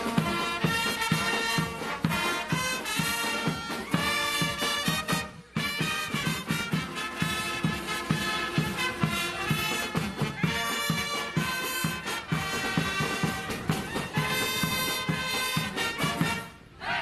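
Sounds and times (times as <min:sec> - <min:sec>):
marching drum beat: 0:00.0 - 0:16.5
marching band brass and saxophones: 0:00.0 - 0:17.0.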